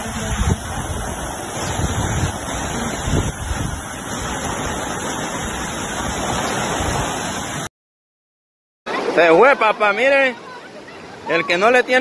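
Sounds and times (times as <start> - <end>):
floodwater rushing: 0.0 - 7.7, 8.9 - 12.0.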